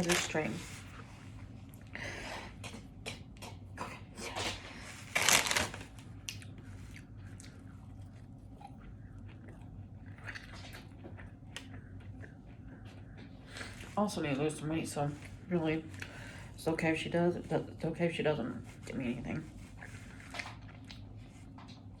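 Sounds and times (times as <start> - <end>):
chewing and crunching food: 0.0 - 16.6, 18.5 - 22.0.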